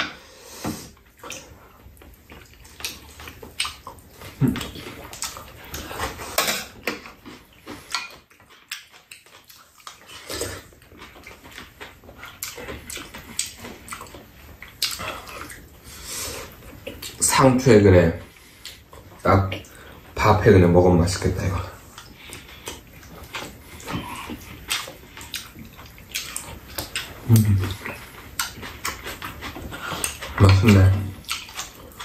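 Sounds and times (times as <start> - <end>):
wet chewing and lip-smacking: 1.0 - 17.2, 18.2 - 20.2, 21.8 - 32.0.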